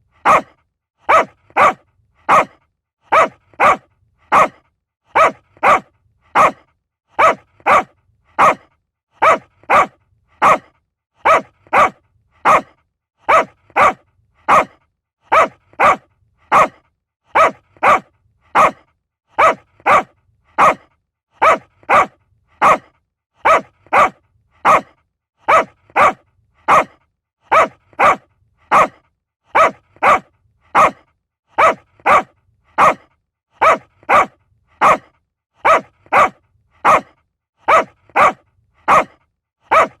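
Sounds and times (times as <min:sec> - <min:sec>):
small dog barking: 0:00.2 - 0:31.0, 0:31.6 - 0:40.0.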